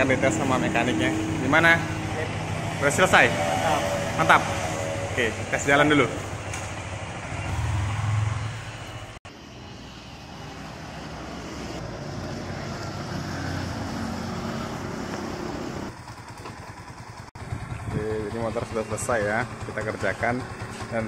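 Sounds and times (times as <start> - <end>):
motorcycle engine running: 0.0 - 8.9, 12.0 - 21.0.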